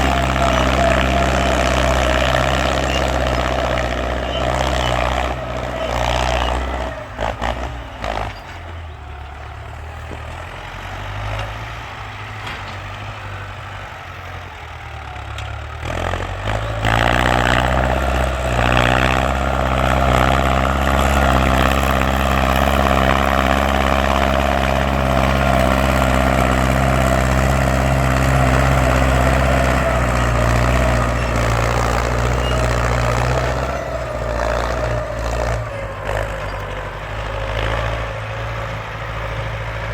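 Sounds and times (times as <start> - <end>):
tractor engine revving: 0.0 - 39.9.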